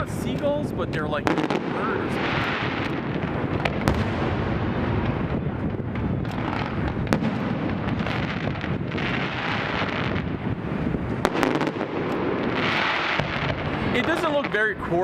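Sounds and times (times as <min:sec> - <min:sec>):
fireworks booming: 0:00.0 - 0:15.0
fireworks crackling: 0:00.0 - 0:15.0
fireworks cracks: 0:00.0 - 0:15.0.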